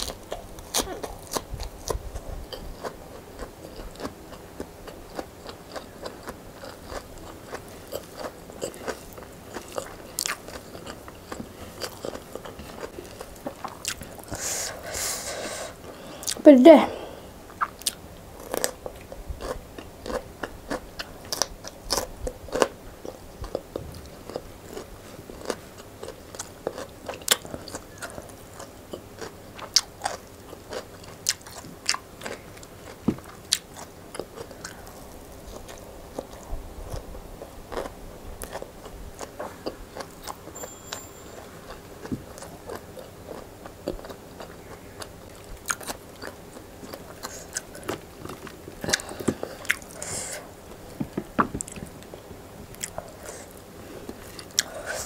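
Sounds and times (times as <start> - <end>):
person chewing leafy vegetables: 0.0 - 16.4, 17.5 - 40.6, 41.3 - 55.0.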